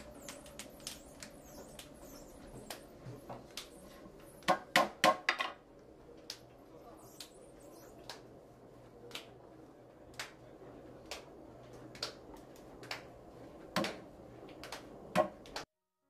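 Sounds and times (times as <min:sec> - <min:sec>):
faint room hum: 0:00.0 - 0:15.7.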